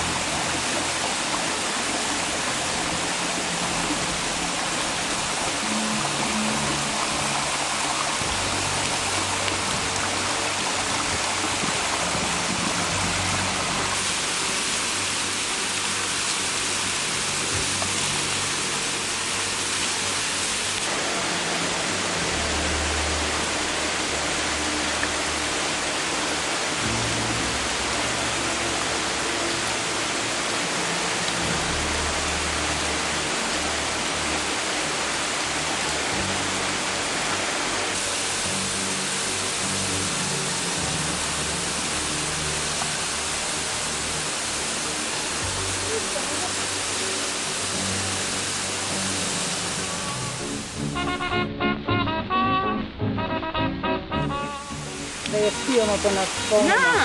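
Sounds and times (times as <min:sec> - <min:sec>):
waterfall splashing on rock: 0:00.0 - 0:51.0, 0:54.6 - 0:57.0
soft background music: 0:00.0 - 0:57.0.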